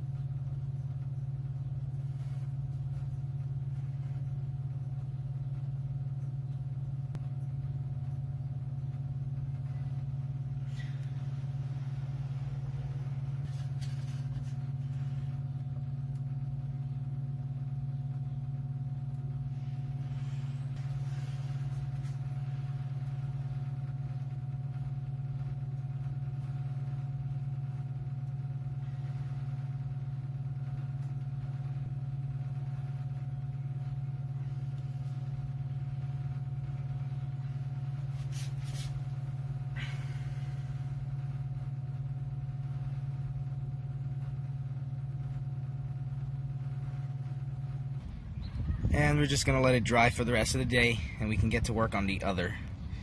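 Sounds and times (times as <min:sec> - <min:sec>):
low motor hum: 0:00.0 - 0:53.0.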